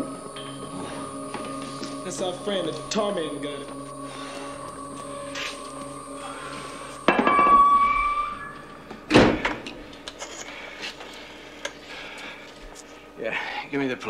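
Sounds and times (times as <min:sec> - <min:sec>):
low held music tones: 0:00.0 - 0:14.0.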